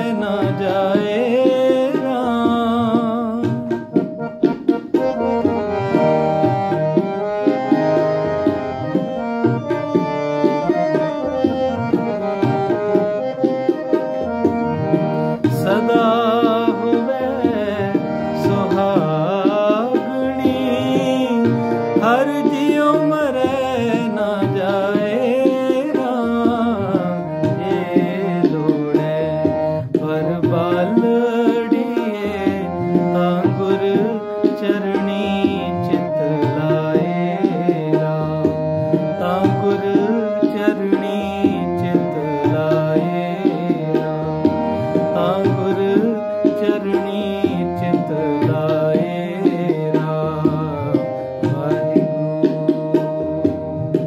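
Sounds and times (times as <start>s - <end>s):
harmonium melody: 0.0s - 54.0s
tabla drumming: 0.0s - 54.0s.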